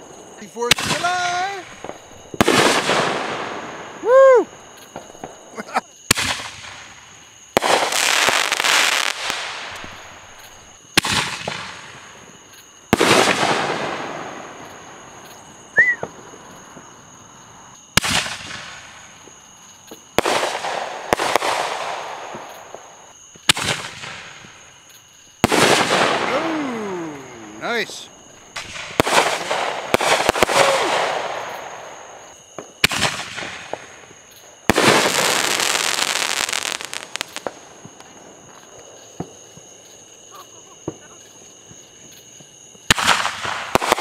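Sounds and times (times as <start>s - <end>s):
fireworks bangs: 0.0s - 17.0s, 18.0s - 24.7s, 25.4s - 40.0s, 40.6s - 44.0s
fireworks crackle: 0.0s - 44.0s.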